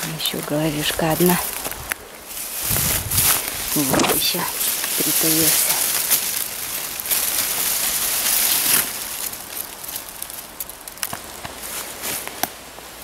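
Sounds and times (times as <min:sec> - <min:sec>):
twigs snapping and crackling: 0:00.0 - 0:12.6
undergrowth rustling: 0:00.0 - 0:13.0.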